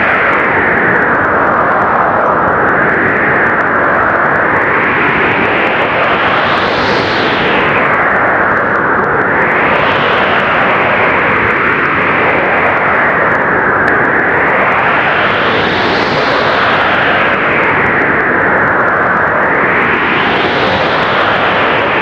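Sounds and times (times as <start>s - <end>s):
strong blizzard wind: 0.0s - 22.0s.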